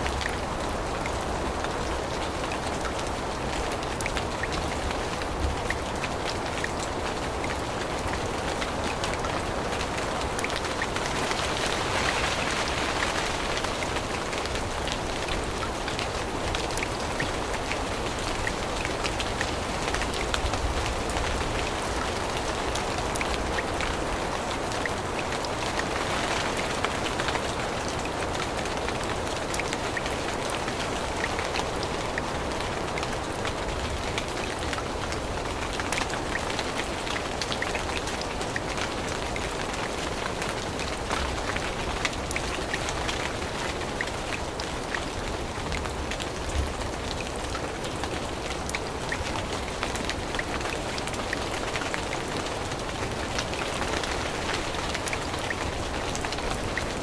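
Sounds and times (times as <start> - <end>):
rain falling through forest: 0.0 - 57.0.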